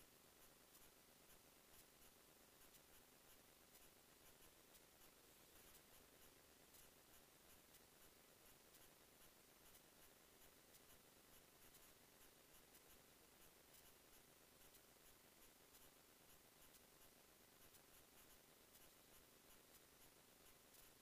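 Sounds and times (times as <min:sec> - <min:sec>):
faint steady hiss: 0:00.0 - 0:21.0
soft ticks: 0:00.0 - 0:21.0.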